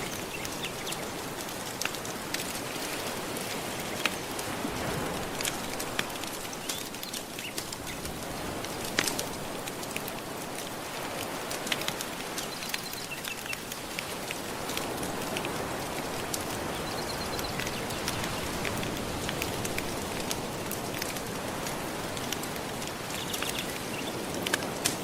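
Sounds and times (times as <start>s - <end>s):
gentle ocean waves: 0.0s - 25.0s
wood fire crackling and popping: 0.1s - 25.0s.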